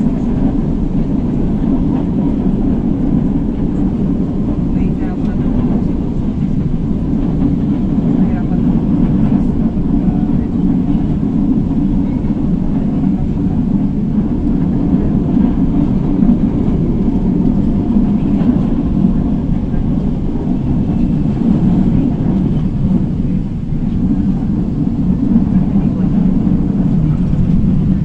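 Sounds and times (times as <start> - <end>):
light-rail car rumbling: 0.0 - 28.0.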